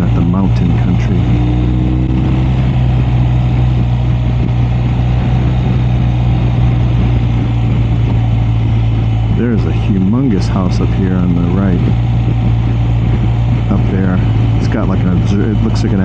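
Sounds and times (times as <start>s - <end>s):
motorcycle engine drone: 0.0s - 16.0s
wind and road rush: 0.0s - 16.0s.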